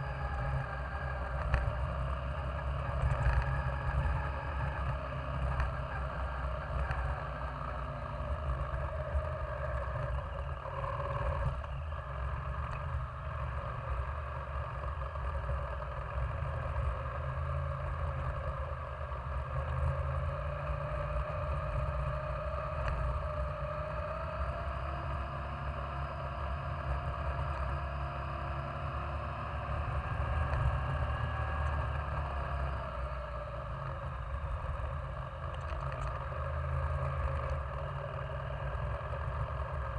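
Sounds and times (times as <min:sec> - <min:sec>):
motorcycle engine running: 0:00.0 - 0:39.9
road and wind rush: 0:00.0 - 0:39.9.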